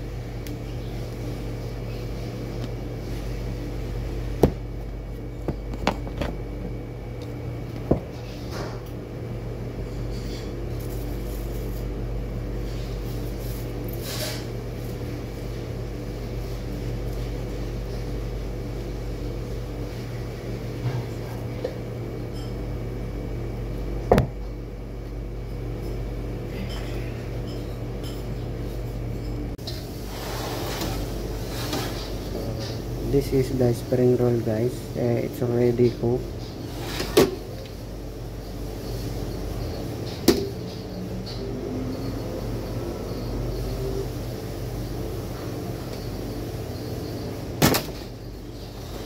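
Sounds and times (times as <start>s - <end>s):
appliance hum: 0.0s - 49.0s.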